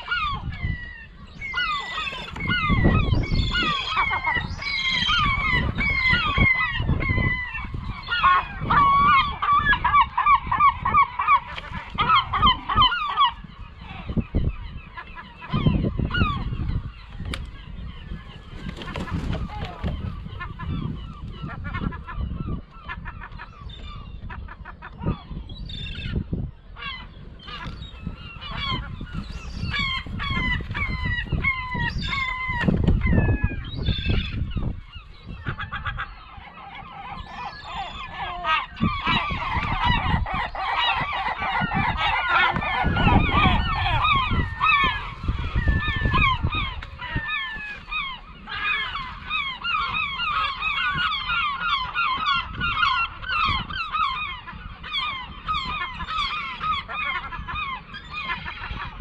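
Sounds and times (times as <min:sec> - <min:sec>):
gulls squabbling and calling: 0:00.0 - 0:59.0.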